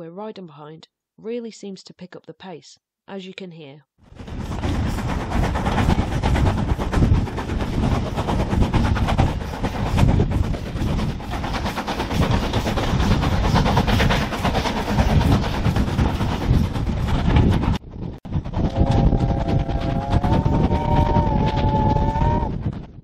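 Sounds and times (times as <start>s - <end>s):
steam locomotive exhaust beats: 4.2s - 23.0s.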